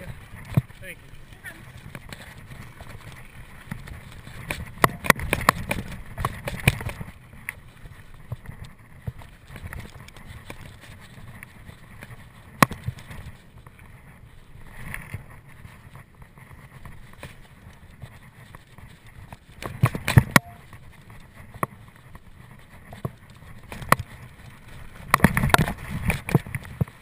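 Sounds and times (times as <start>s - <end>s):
bike tyre rumble on dirt: 0.0s - 27.0s.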